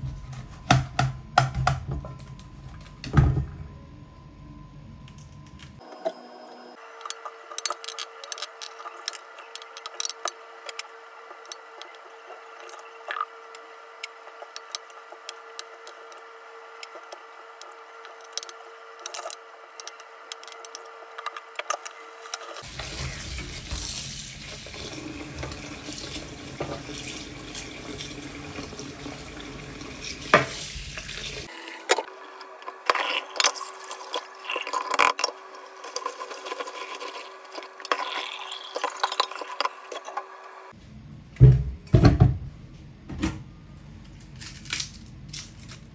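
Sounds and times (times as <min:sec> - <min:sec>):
steady hum: 0:00.0 - 0:37.9.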